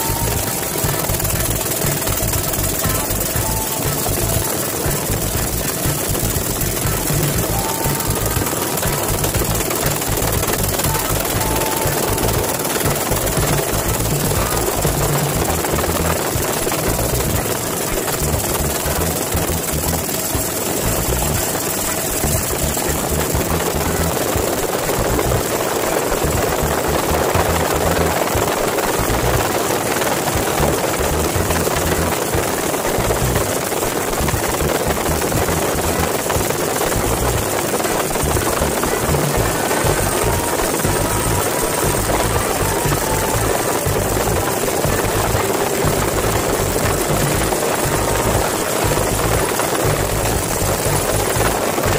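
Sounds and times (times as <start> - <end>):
helicopter rotor and turbine: 0.0 - 51.9.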